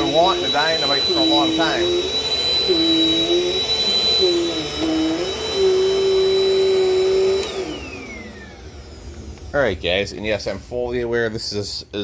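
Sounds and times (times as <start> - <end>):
vacuum cleaner motor whining: 0.0 - 10.8.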